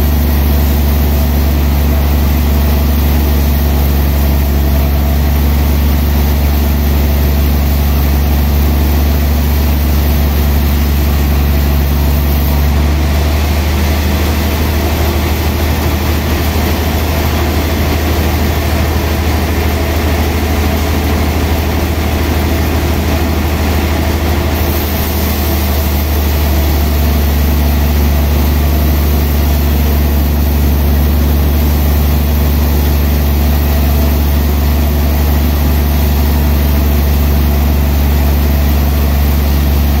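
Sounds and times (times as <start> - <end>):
band saw motor hum: 0.0 - 40.0.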